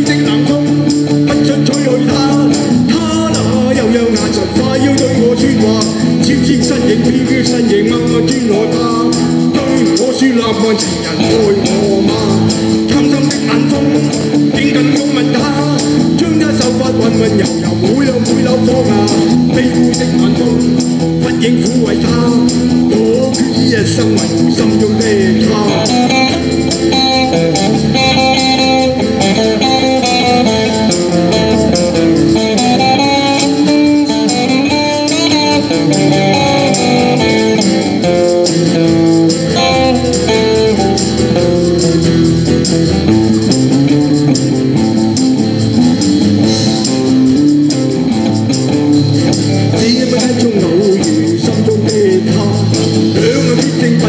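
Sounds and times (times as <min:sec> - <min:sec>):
drum kit: 0:00.0 - 0:54.0
electric guitars: 0:00.0 - 0:54.0
hand percussion: 0:00.0 - 0:54.0.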